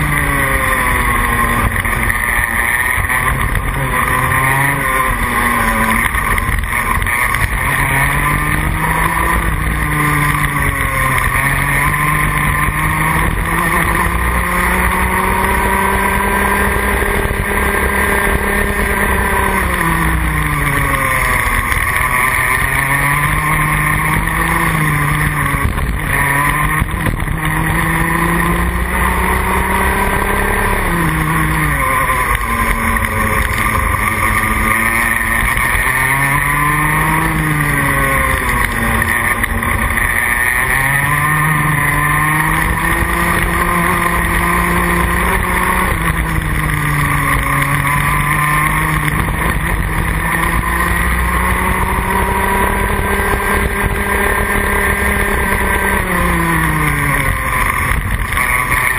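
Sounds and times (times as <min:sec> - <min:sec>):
kart engine at racing speed: 0:00.0 - 0:58.9.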